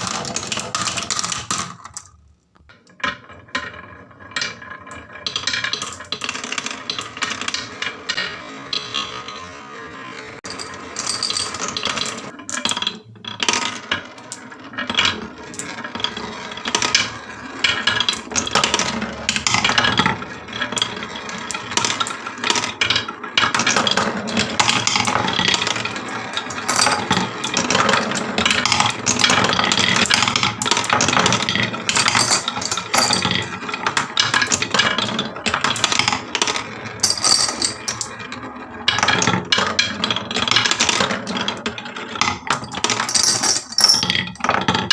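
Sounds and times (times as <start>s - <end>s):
marbles clattering down wooden run: 0.0s - 9.6s, 10.4s - 44.9s.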